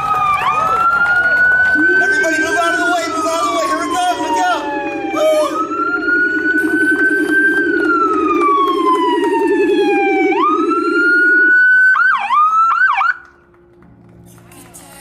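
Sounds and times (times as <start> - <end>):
fast low siren warble: 0.0 - 13.2
siren yelps: 0.0 - 13.2
siren wail: 0.0 - 13.3.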